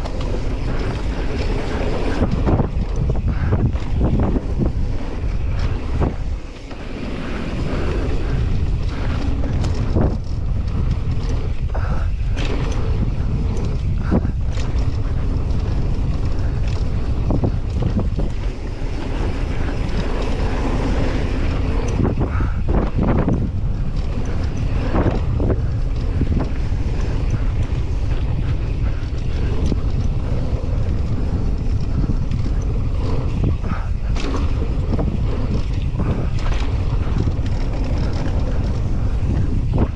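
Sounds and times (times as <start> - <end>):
bike knocks and rattles: 0.0 - 39.9
bike tyre noise on trail: 0.0 - 39.9
wind buffeting microphone: 0.0 - 39.9.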